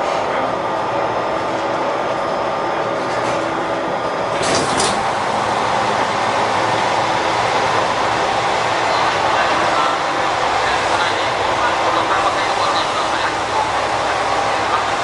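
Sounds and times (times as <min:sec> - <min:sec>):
railcar engine hum: 0:00.0 - 0:15.0.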